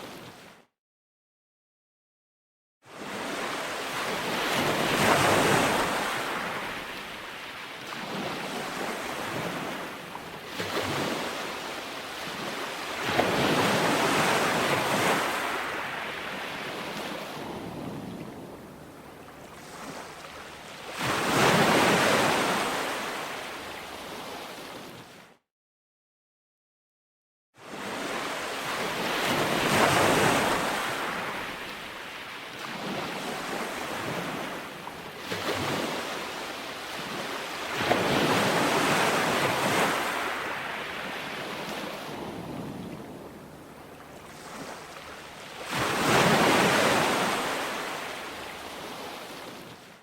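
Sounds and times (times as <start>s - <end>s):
ocean waves breaking on shore: 0.0s - 0.7s, 2.9s - 25.4s, 27.6s - 50.0s.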